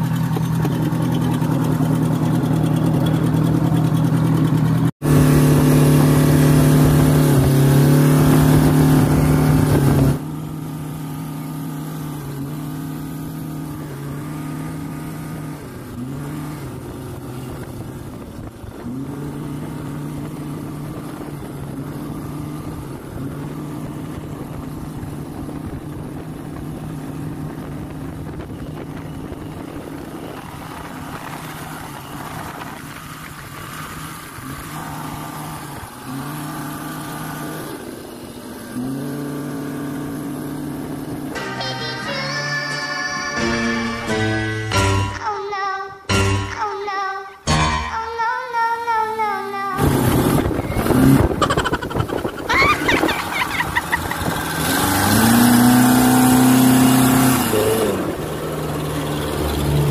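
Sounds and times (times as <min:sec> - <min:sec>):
speedboat engine running: 0:00.0 - 0:41.4, 0:49.3 - 0:59.9.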